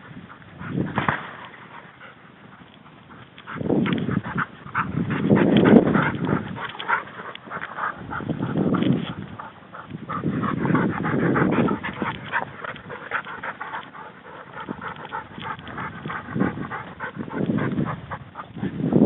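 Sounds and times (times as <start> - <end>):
dog panting: 0.0 - 19.0
low rumble: 3.0 - 18.9.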